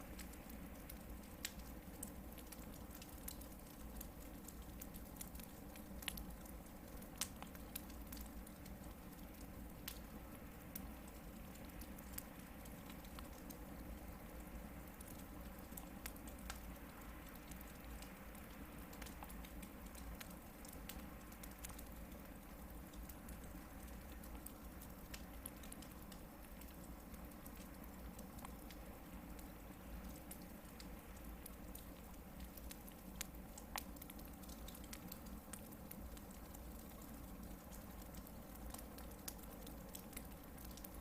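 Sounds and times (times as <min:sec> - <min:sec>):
campfire crackling and popping: 0:00.0 - 0:41.0
campfire hissing: 0:00.0 - 0:41.0.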